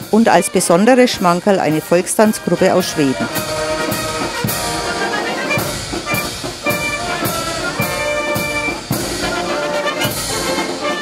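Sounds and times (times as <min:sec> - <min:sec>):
brass and clarinets holding notes: 0:00.0 - 0:11.0
drum beat: 0:00.0 - 0:11.0.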